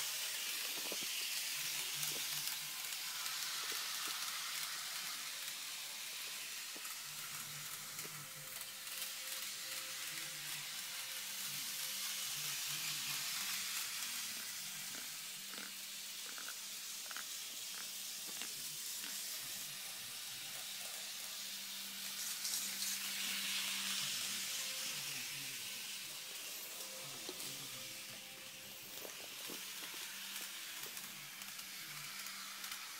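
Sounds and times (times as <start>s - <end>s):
model train motor whirring: 0.0s - 32.9s.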